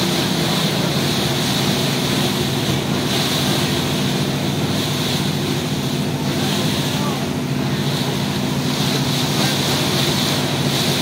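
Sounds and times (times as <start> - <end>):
boat engine running: 0.0 - 11.0
water rushing past hull: 0.0 - 11.0.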